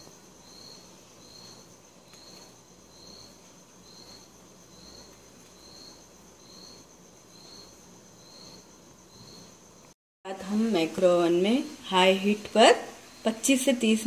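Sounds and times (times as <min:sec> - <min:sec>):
cricket chirping: 0:00.0 - 0:14.0
steady high hiss: 0:00.0 - 0:14.0.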